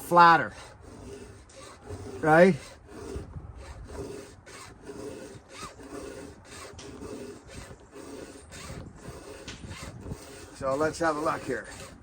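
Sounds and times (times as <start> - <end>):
file rasping on chainsaw chain: 0.0 - 12.0.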